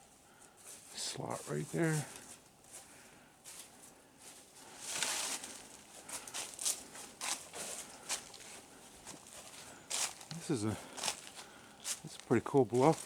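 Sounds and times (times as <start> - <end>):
footsteps crunching on trail: 0.1 - 13.0.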